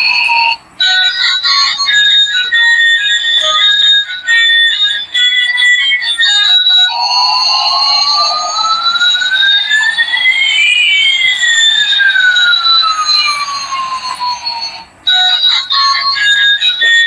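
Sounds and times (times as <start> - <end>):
electronic sliding tones: 0.0 - 17.0.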